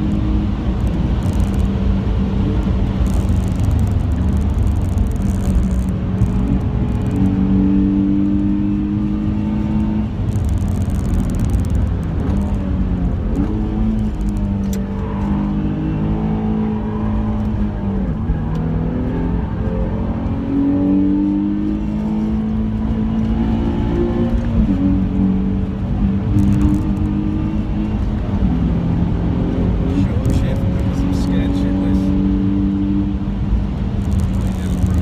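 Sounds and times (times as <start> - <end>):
car engine revving: 0.0 - 35.0
road and tyre noise: 0.0 - 35.0.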